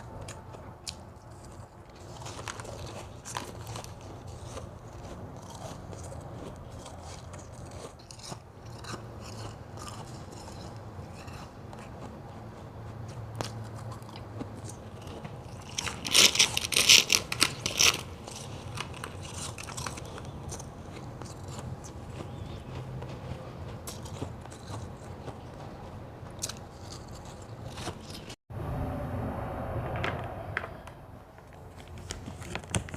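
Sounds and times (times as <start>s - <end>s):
ice being bitten and chewed: 0.0s - 28.4s.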